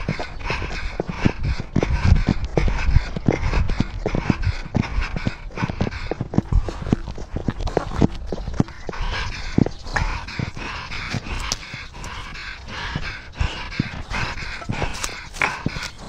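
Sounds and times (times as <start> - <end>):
cat panting: 0.0 - 16.0.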